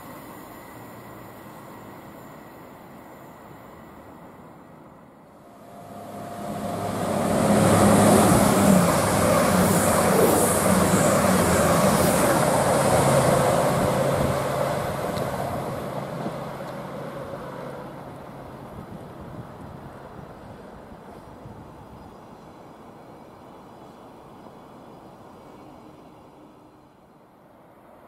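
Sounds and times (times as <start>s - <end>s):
diesel train passing at speed: 0.0s - 28.0s.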